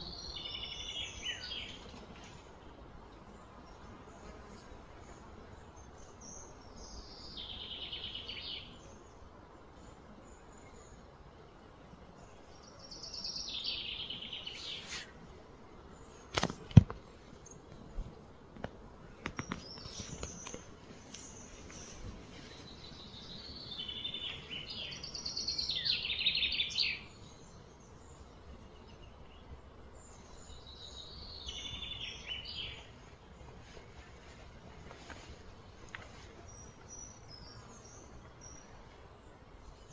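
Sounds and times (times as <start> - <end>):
songbird chattering song: 0.0 - 11.1, 12.1 - 15.2, 19.1 - 39.9
outdoor background: 0.0 - 39.9.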